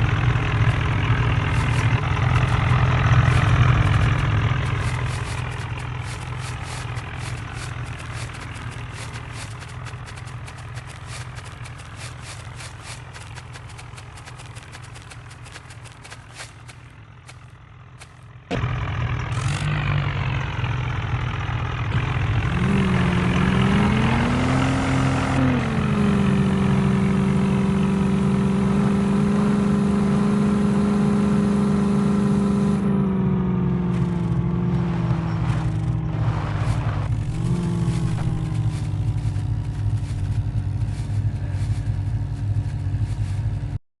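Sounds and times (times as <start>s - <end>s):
tractor diesel engine whine: 0.0s - 43.8s.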